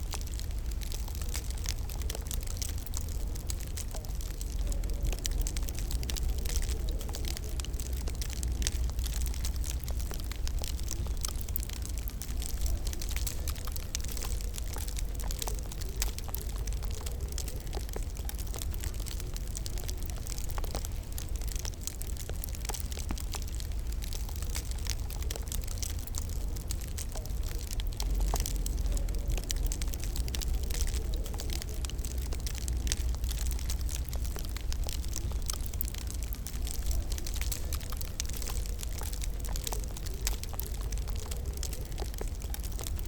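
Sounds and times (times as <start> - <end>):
low fire rumble: 0.0 - 43.0
wood fire crackling: 0.0 - 43.0.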